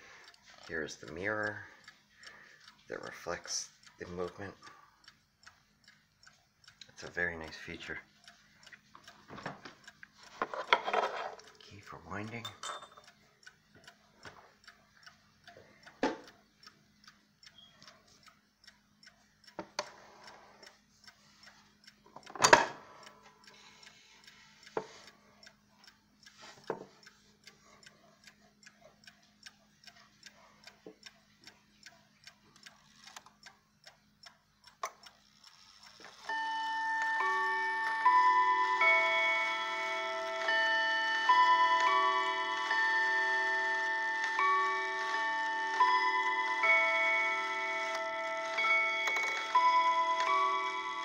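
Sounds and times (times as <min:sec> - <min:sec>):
clock chiming: 0:00.0 - 0:51.0
clock ticking: 0:00.0 - 0:51.0.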